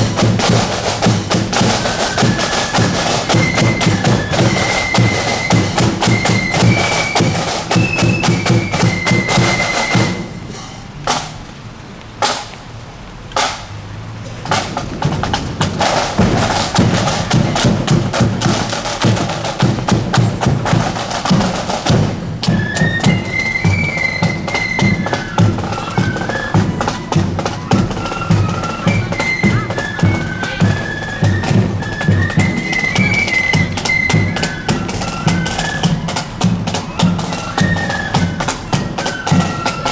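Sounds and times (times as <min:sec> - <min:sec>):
flutes playing a tune: 0:00.0 - 0:10.9, 0:15.8 - 0:39.9
rapid drumming: 0:00.0 - 0:39.9.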